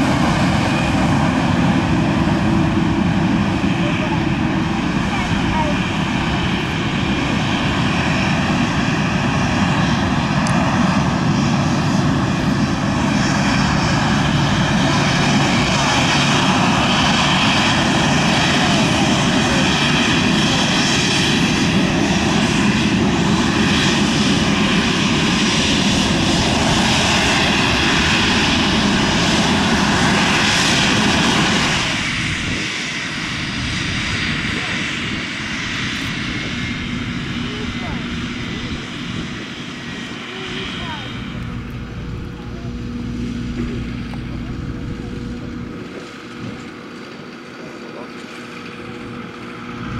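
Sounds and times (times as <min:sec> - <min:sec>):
jet engines whining at taxi power: 0:00.0 - 0:49.9.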